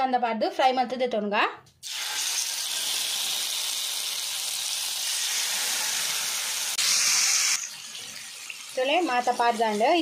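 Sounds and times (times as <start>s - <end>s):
chicken sizzling in hot oil: 1.8s - 10.0s.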